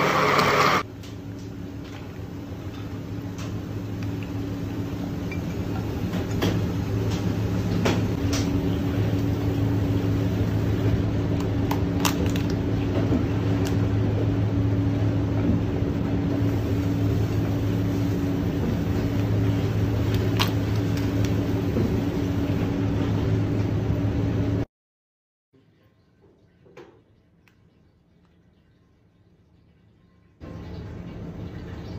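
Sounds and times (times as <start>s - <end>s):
low mechanical hum: 0.0s - 24.7s, 25.6s - 31.9s.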